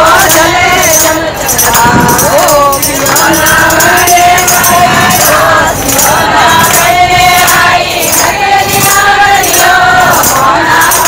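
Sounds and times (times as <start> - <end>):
women singing in unison: 0.0 - 11.0
hand-clapping in time: 0.3 - 11.0.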